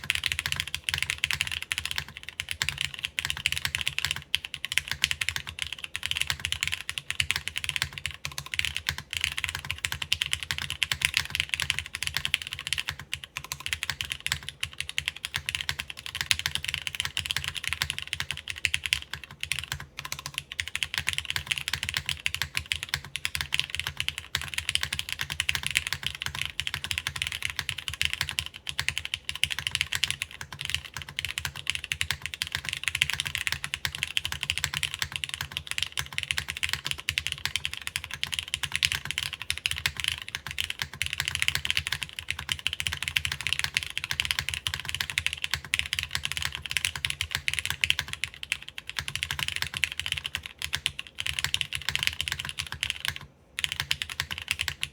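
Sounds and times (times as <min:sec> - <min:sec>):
fast mechanical keyboard typing: 0:00.0 - 0:54.9.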